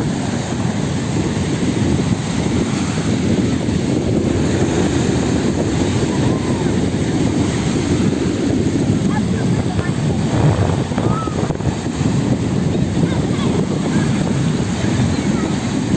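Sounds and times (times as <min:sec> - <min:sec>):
water washing: 0:00.0 - 0:15.9
wind buffeting microphone: 0:00.0 - 0:15.9.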